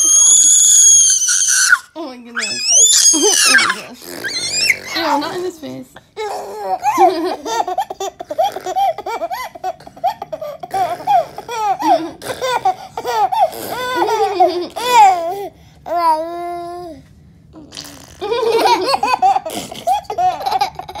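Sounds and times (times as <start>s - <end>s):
baby and girl laughing: 0.0s - 5.5s, 6.2s - 15.4s, 17.7s - 21.0s.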